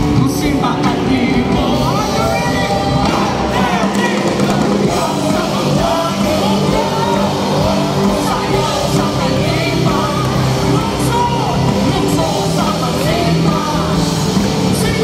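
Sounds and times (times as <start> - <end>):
bass guitar: 0.0 - 15.0
drums: 0.0 - 15.0
live band playing: 0.0 - 15.0
people singing into microphones: 0.0 - 15.0.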